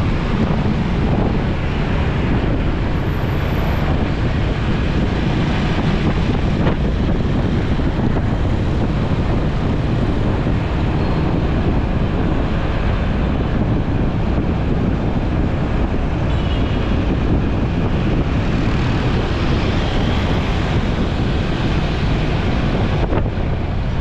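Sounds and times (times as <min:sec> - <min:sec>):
road and traffic noise: 0:00.0 - 0:24.0
wind buffeting microphone: 0:00.0 - 0:24.0.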